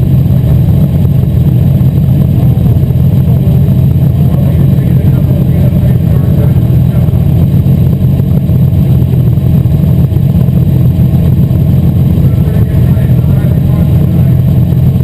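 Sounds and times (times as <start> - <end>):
race car engine running loud: 0.0 - 15.0.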